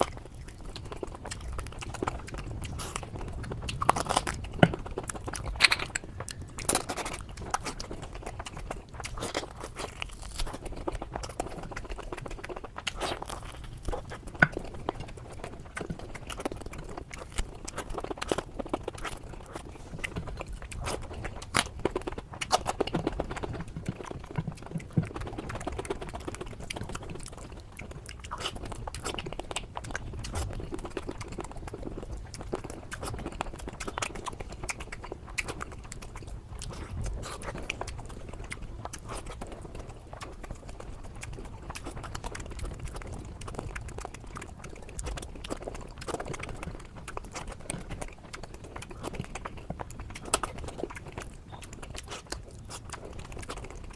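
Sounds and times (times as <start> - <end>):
mouth clicks and smacks: 0.0 - 53.9
person chewing: 0.0 - 53.9.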